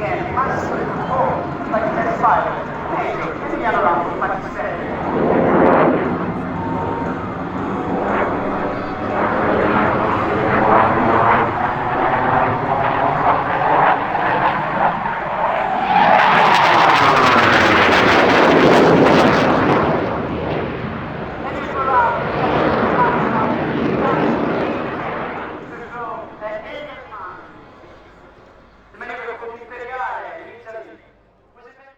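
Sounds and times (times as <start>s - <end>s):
jet engine roar: 0.0s - 29.8s.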